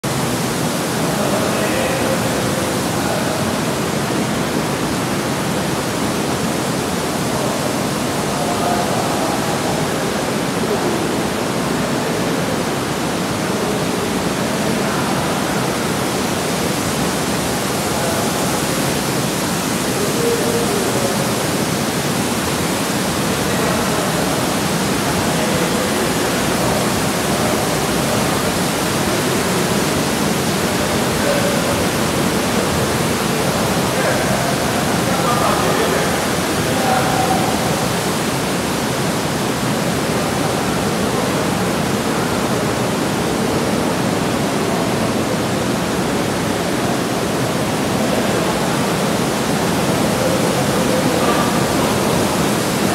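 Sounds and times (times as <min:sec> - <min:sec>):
rushing water in a pool: 0:00.0 - 0:52.9.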